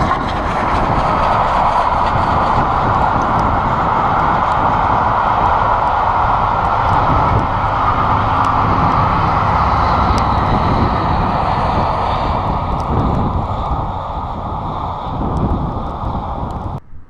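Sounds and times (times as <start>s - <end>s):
train coaches rolling on rails: 0.0s - 16.3s
wind on microphone: 0.0s - 17.0s.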